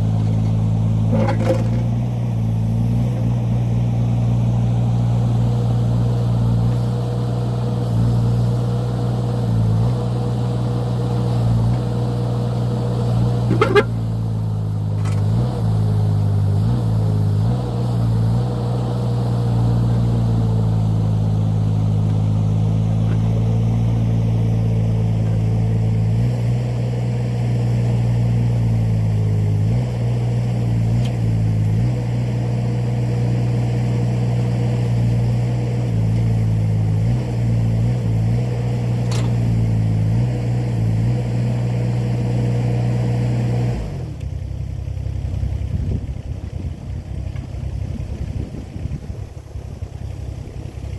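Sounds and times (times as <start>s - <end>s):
excavator engine running: 0.0s - 50.9s.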